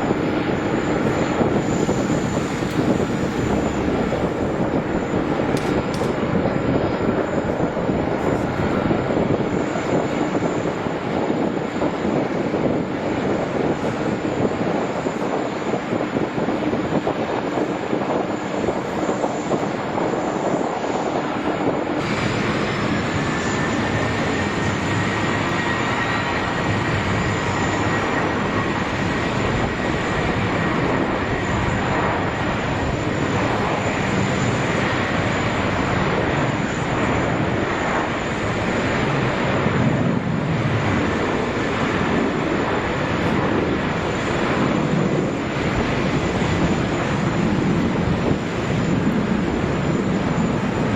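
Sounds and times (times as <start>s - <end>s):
jet engines rushing: 0.0s - 50.9s.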